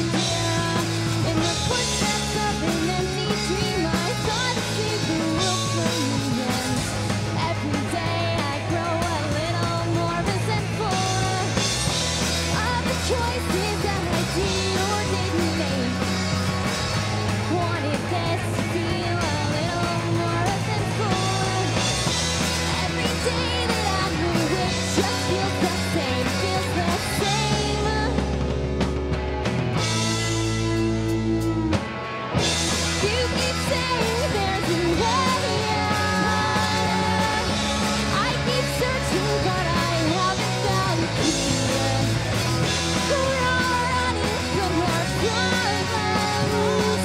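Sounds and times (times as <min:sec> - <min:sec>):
woman singing: 0:00.0 - 0:16.2, 0:17.4 - 0:28.3, 0:32.9 - 0:47.0
live rock band playing: 0:00.0 - 0:47.0.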